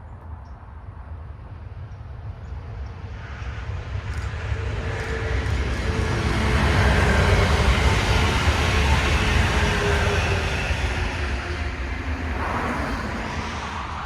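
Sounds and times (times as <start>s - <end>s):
train rumble and rush: 0.0s - 14.0s
train whine: 1.7s - 14.0s.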